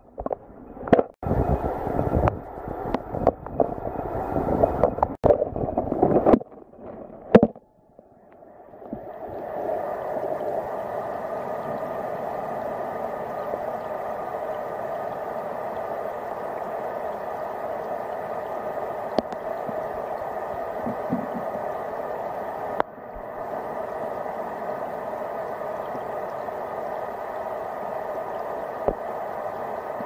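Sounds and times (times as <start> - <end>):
underwater stream churning: 0.0 - 7.6, 8.4 - 30.0
muffled flowing water hum: 0.0 - 30.0.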